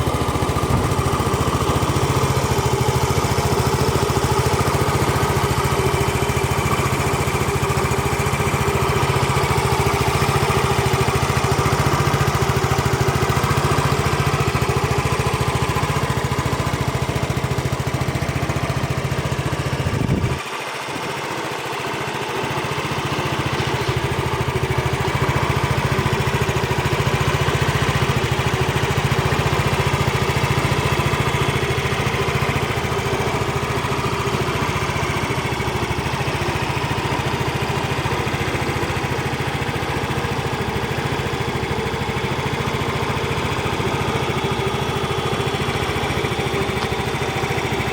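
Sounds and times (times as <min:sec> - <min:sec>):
scooter engine idling: 0:00.0 - 0:47.9.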